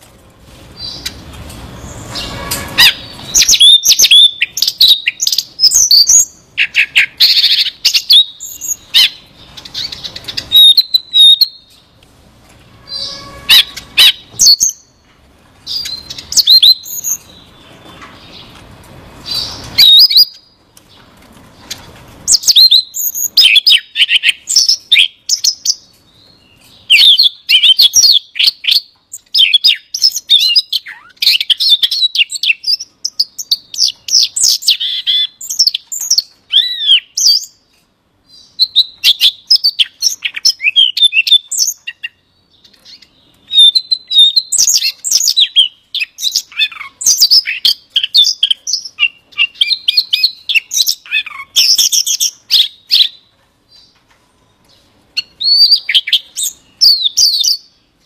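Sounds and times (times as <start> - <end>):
bird warbling and twittering: 0.8 - 12.0, 12.7 - 57.9.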